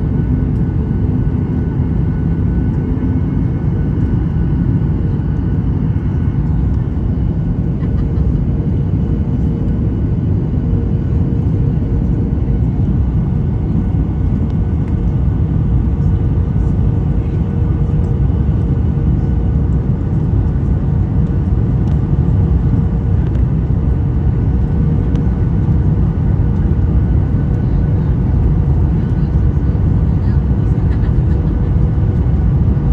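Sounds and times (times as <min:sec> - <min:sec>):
jet engine cabin rumble: 0:00.0 - 0:32.9.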